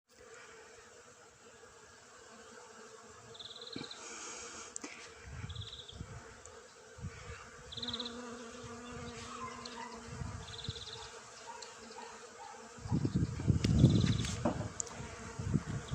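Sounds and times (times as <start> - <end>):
bees humming drone: 0.1 - 15.9
low bee buzz: 0.1 - 15.9.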